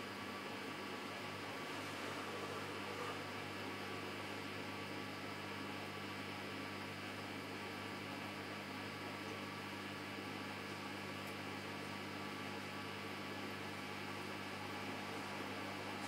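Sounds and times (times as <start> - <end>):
washing machine hum and hiss: 0.0 - 16.0.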